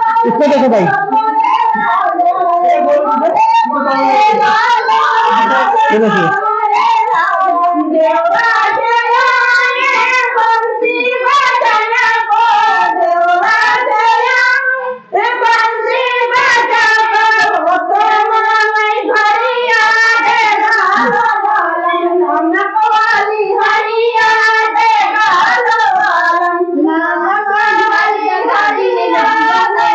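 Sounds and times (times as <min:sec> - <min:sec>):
women singing unaccompanied: 0:00.0 - 0:29.9.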